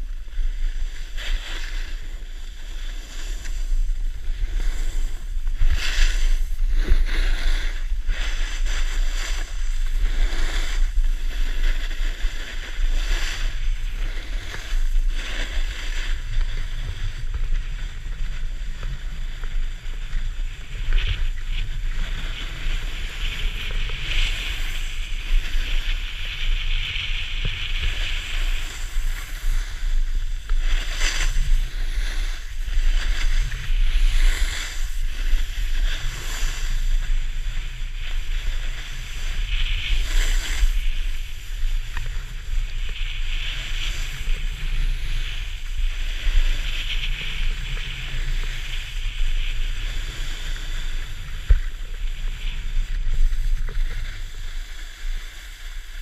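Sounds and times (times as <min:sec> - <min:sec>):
ski edges scraping packed snow: 0:00.0 - 0:56.0
wind buffeting microphone: 0:00.0 - 0:56.0.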